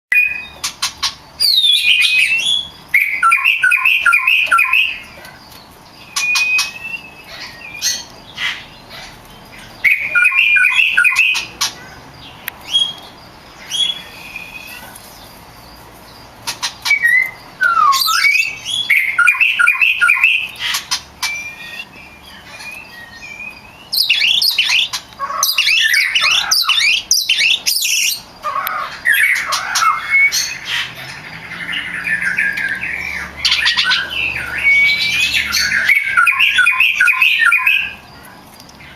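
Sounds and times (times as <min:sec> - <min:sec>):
songbird whistling and chattering: 0:00.1 - 0:15.0, 0:16.4 - 0:38.1.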